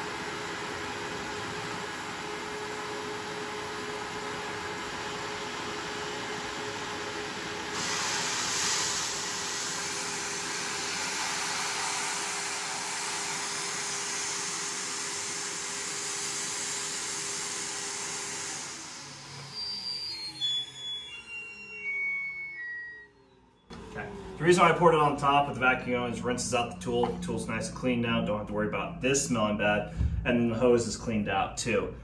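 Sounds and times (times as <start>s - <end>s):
motor winding down whine: 0.0s - 29.6s
shop vacuum running: 0.0s - 32.0s.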